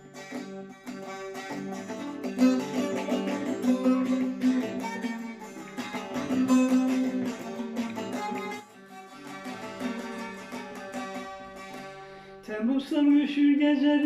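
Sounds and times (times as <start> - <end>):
saz plucked melody over drone: 0.0 - 12.1.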